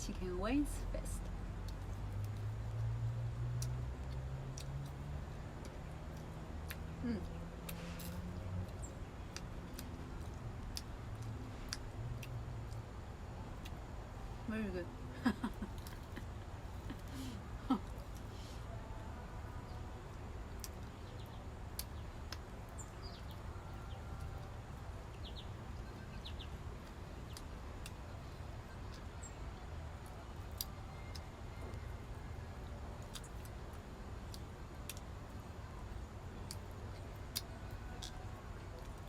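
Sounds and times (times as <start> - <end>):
low background rumble: 0.0 - 39.0.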